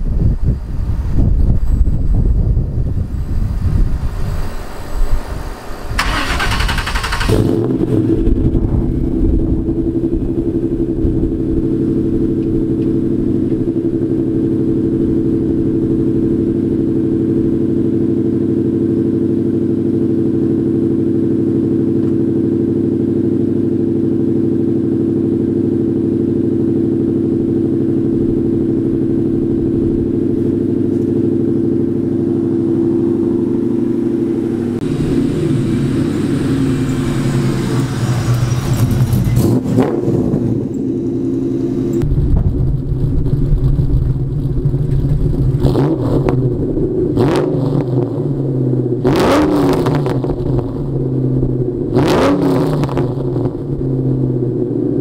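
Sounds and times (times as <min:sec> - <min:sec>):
car engine idling: 0:00.0 - 0:49.2, 0:49.8 - 0:52.0, 0:53.0 - 0:55.0
car pulling away: 0:00.5 - 0:23.0, 0:25.0 - 0:55.0.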